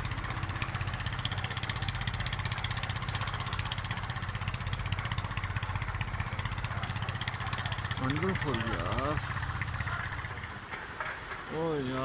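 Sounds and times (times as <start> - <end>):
constant hiss: 0.0 - 12.0
small engine idling: 0.0 - 12.0.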